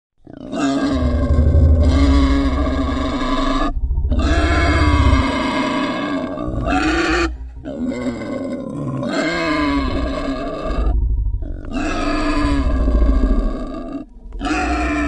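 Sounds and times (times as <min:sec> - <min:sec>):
animal distress calls: 0:00.3 - 0:15.0
low rasping rumble: 0:00.8 - 0:15.0.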